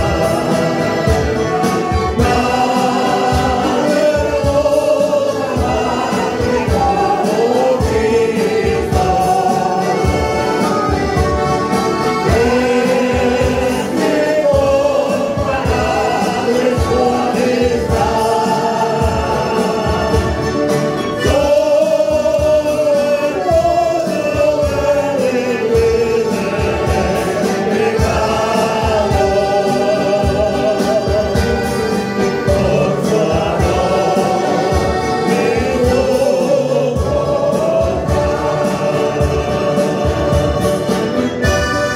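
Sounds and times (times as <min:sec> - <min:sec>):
accordion: 0:00.0 - 0:41.9
choir singing a hymn: 0:00.0 - 0:41.9
strummed acoustic guitar: 0:00.0 - 0:41.9.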